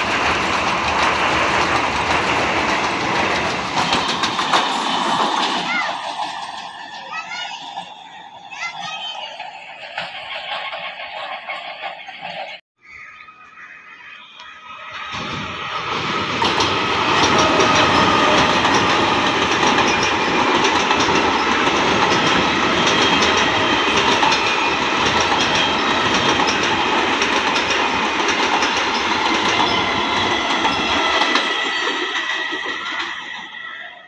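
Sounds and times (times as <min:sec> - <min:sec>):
wheels clattering over rail joints: 0:00.0 - 0:12.6, 0:15.0 - 0:33.7.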